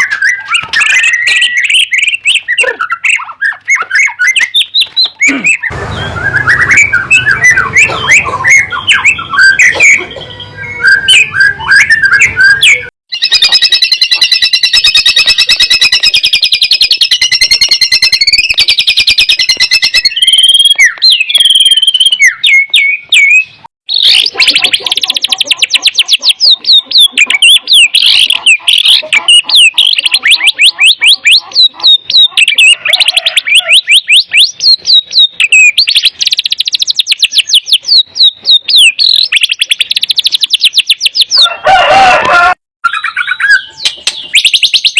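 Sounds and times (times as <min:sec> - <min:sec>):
bird singing whistles and trills: 0:00.0 - 0:41.5, 0:42.8 - 0:44.9.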